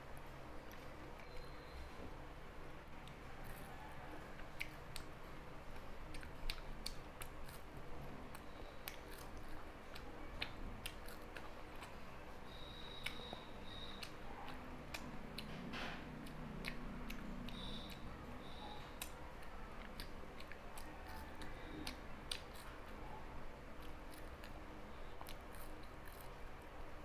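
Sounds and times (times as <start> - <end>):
chewing and biting sweets: 3.0 - 27.0.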